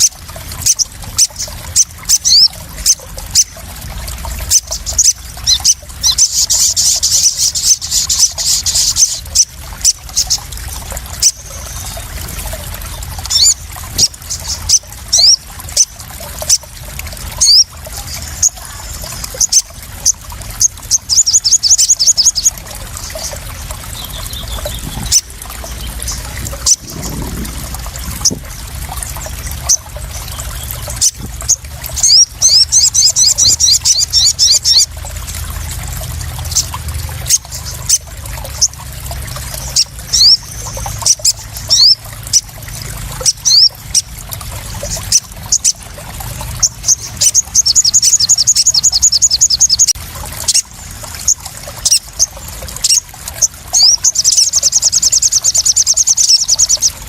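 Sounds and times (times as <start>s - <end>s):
bird calling in rapid trills: 0.0s - 35.2s, 36.3s - 57.0s
sharp water drips: 0.0s - 57.0s
water splashing and trickling: 0.0s - 57.0s.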